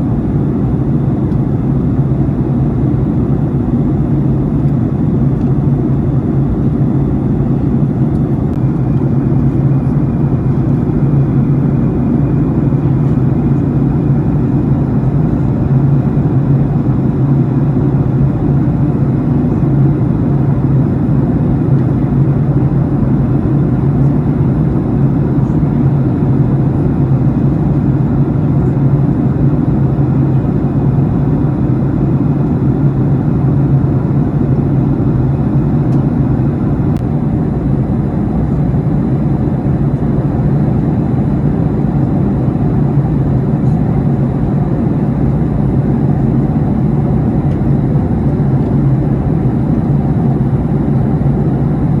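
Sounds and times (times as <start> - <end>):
jet cabin engine drone: 0.0 - 52.0.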